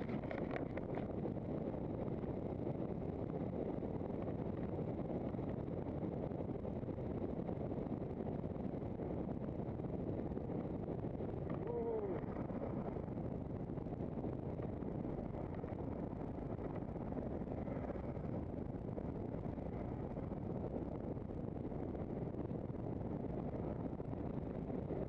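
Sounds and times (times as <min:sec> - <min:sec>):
wheels rumbling on tarmac: 0:00.0 - 0:25.0
wind on microphone: 0:00.0 - 0:25.0.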